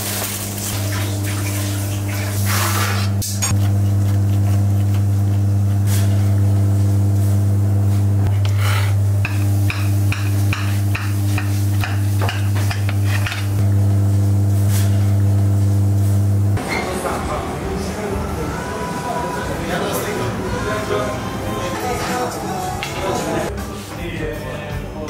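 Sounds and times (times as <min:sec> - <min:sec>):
steady low hum: 0:00.8 - 0:22.4.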